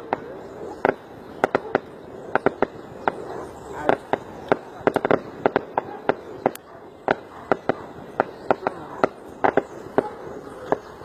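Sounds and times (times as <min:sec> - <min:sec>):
firecrackers cracking: 0:00.0 - 0:11.0.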